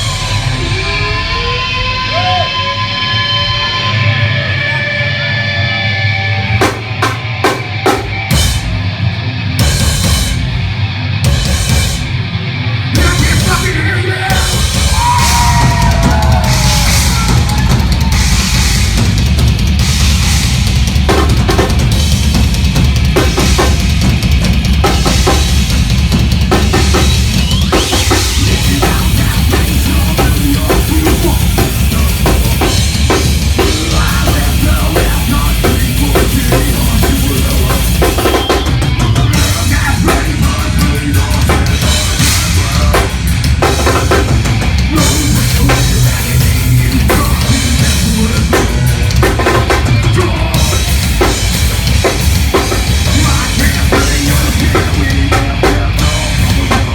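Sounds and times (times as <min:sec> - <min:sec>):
drum kit: 0:00.0 - 0:04.7, 0:06.2 - 0:56.9
distorted guitars and bass: 0:00.0 - 0:56.9.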